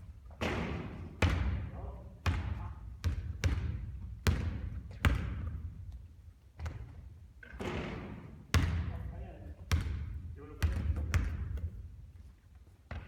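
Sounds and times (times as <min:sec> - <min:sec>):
basketball bouncing on hard floor: 0:00.3 - 0:06.0, 0:06.6 - 0:11.8.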